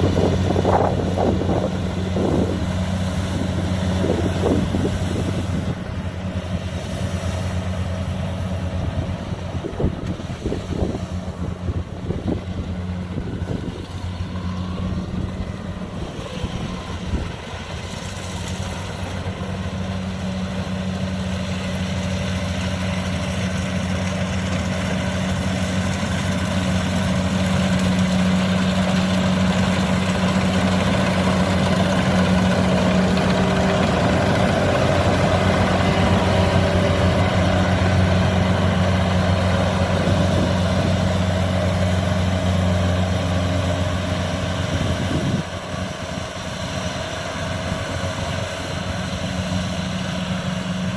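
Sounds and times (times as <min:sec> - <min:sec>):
diesel engine humming: 0:00.0 - 0:50.9.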